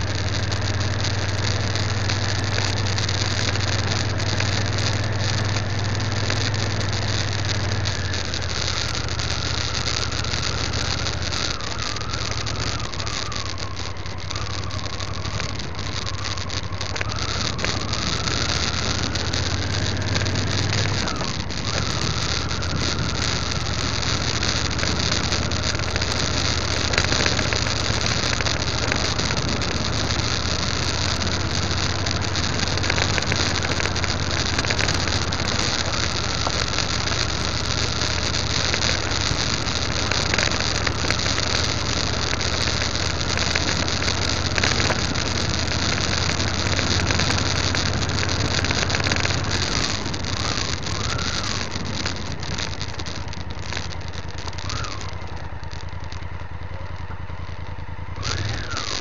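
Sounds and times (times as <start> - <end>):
high engine whine: 0.0 - 59.0
motorcycle engine hum: 0.0 - 59.0
road and wind noise: 0.0 - 59.0
small ticks: 0.0 - 59.0.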